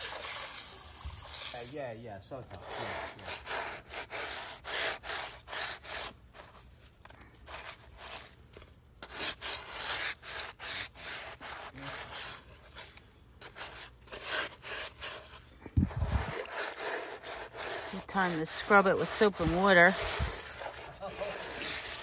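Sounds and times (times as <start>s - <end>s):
scrubbing pad on wet cement: 0.0s - 22.0s.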